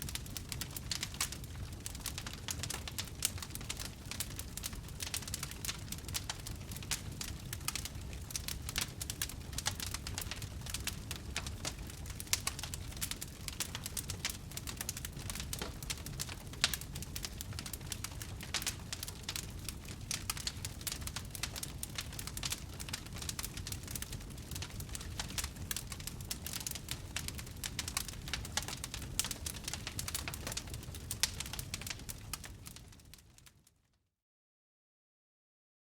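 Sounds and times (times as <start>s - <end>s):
fire crackling and popping: 0.0s - 33.6s.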